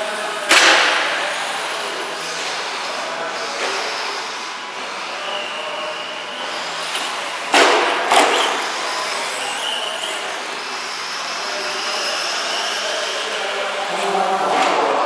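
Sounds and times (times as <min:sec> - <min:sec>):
rc truck electric motor whining: 0:01.2 - 0:07.5, 0:08.1 - 0:14.2.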